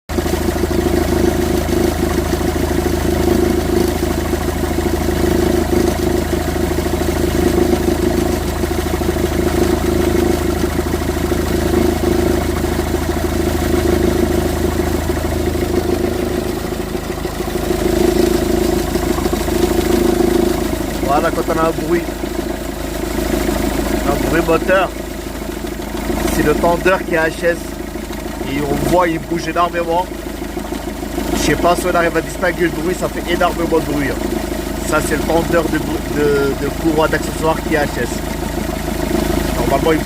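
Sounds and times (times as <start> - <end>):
engine idling: 0.1 - 40.0.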